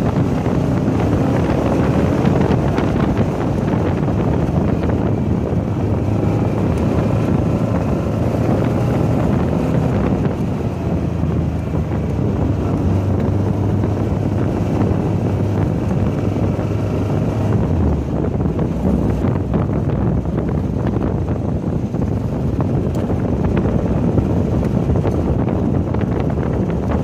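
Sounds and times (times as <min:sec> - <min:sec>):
car engine running under load: 0:00.0 - 0:27.0
wind buffeting microphone: 0:00.0 - 0:27.0.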